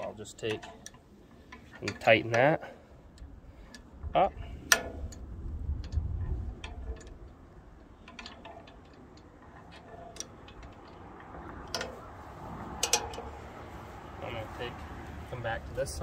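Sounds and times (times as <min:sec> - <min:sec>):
handling rumble: 0:00.0 - 0:16.0.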